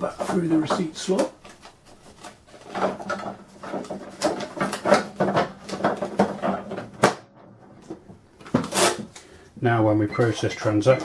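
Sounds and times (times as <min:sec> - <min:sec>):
plastic cover knocking and rattling: 0:00.0 - 0:09.1.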